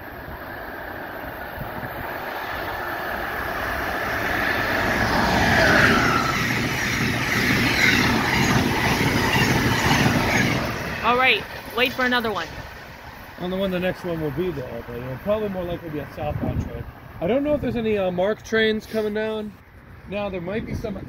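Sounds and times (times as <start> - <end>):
passenger train passing: 0.0 - 21.0.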